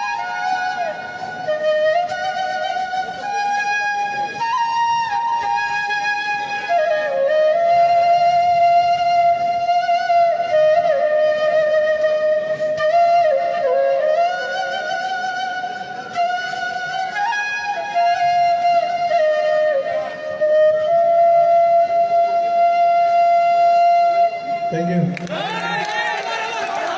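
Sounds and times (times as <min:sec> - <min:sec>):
solo flute melody: 0:00.0 - 0:25.1.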